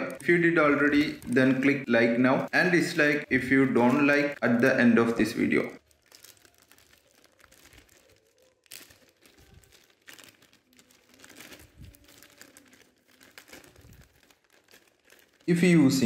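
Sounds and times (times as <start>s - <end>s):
plastic bag tearing: 0.0s - 16.0s
plastic mailer bag crinkling: 0.0s - 16.0s.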